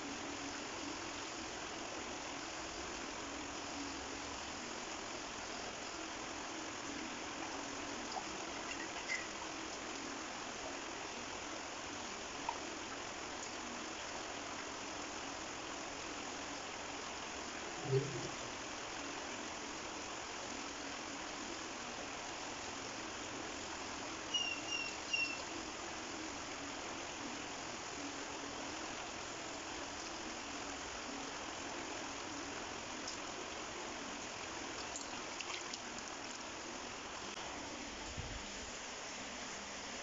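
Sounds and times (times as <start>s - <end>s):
stream water flowing: 6.0s - 21.6s, 22.4s - 40.0s.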